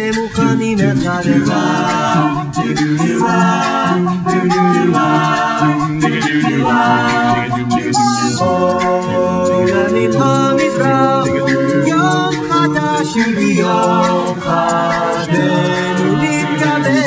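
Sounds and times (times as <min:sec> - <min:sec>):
a cappella group singing in harmony: 0:00.0 - 0:17.0.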